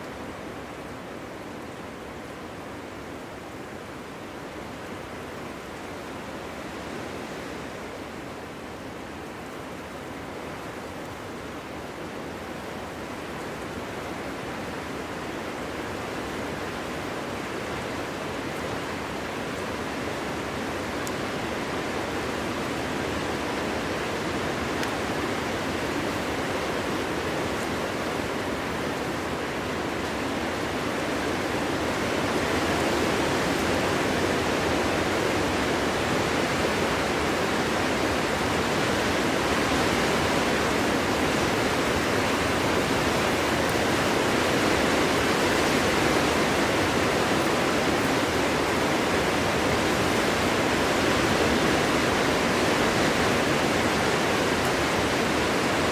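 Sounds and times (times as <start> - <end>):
strong wind through forest: 0.0 - 55.9.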